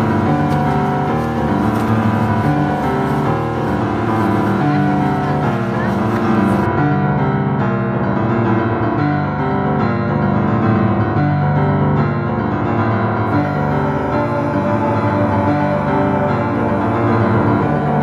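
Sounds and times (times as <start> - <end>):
background piano music: 0.0 - 18.0.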